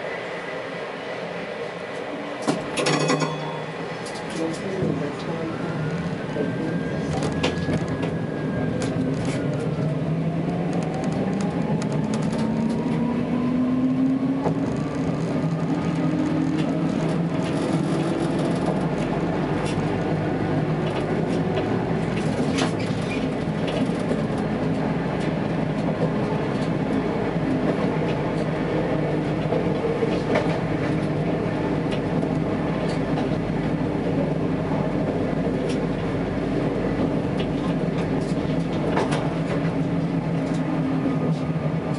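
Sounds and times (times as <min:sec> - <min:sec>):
tram motor whine: 0:00.0 - 0:41.9
wheels rumbling and clicking on rails: 0:00.0 - 0:41.9.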